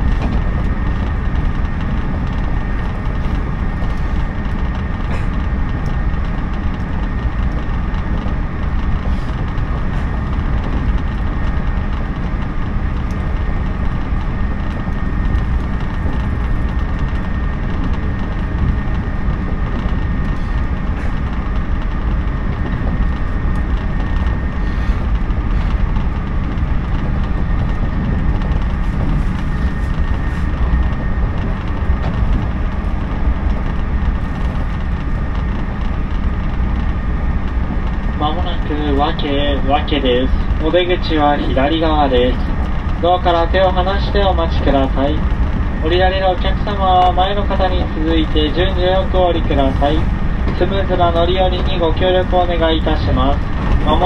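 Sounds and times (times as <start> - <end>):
faint steady whine: 0.0 - 54.0
train rumble inside carriage: 0.0 - 54.0.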